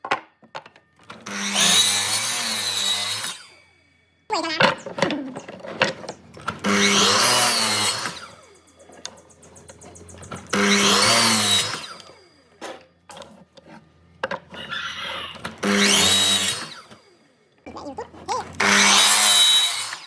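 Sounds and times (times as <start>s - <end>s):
power tool cutting wood: 1.0s - 3.6s, 4.4s - 17.4s, 18.0s - 20.0s.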